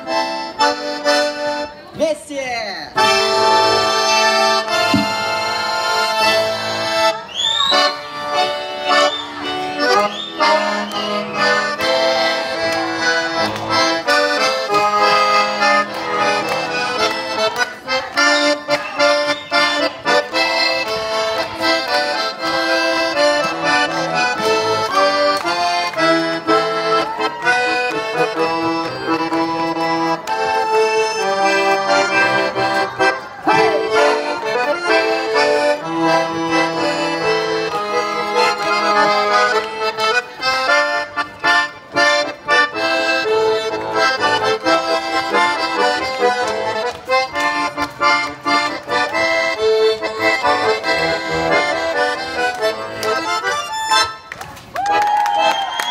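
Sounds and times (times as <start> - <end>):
button accordion folk dance tune: 0.0 - 55.9.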